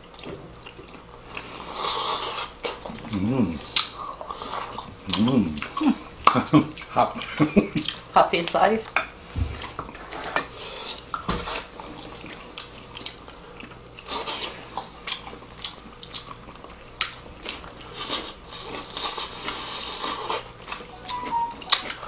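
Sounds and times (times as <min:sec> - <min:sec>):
people chewing and lip-smacking: 0:00.0 - 0:22.0.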